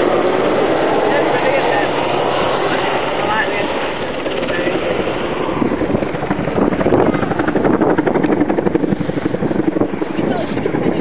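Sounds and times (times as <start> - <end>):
helicopter rotor beating: 0.0 - 11.0.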